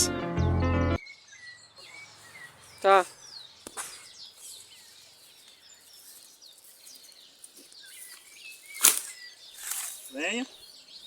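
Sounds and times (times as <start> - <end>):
wild birds chirping: 1.0 - 11.0.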